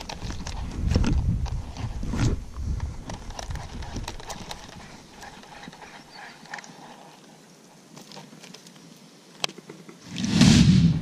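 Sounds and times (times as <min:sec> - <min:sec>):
soft outdoor hiss: 0:00.0 - 0:11.0.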